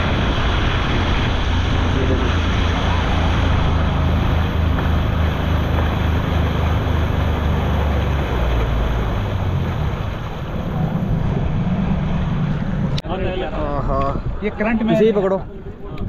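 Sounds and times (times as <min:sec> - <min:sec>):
speedboat engine running: 0:00.0 - 0:13.8
water rushing along hull: 0:00.0 - 0:16.0
wind buffeting microphone: 0:00.0 - 0:16.0.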